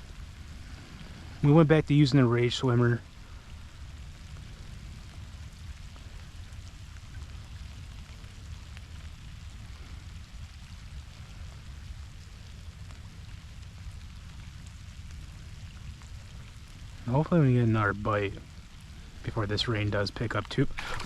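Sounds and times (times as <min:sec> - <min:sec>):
heavy rain falling: 0:00.0 - 0:21.0
low rumble: 0:00.0 - 0:21.0.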